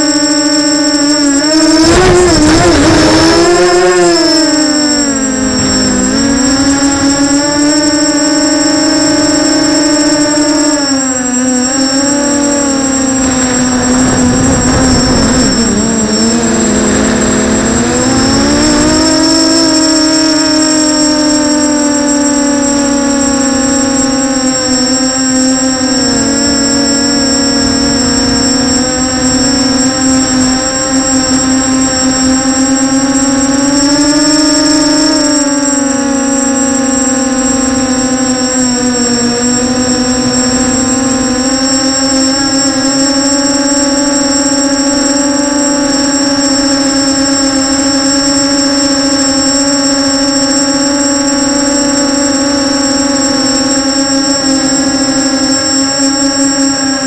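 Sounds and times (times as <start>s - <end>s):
drone motors buzzing whine: 0.0s - 57.0s.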